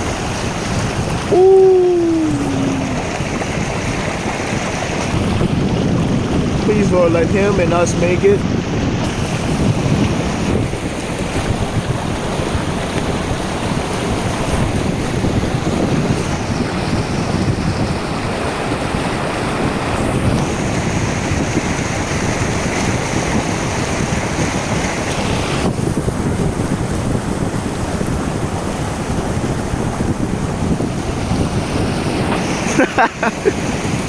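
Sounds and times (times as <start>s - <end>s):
floodwater sloshing against car: 0.0s - 34.0s
wind on microphone: 0.0s - 34.0s.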